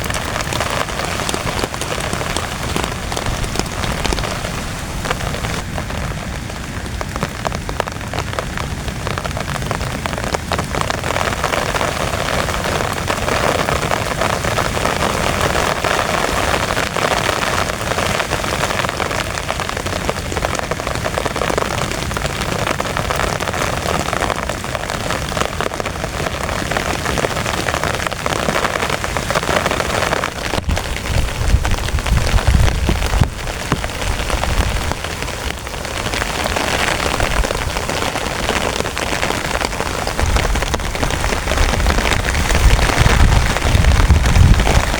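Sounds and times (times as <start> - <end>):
heavy rain on a tent: 0.0 - 44.9.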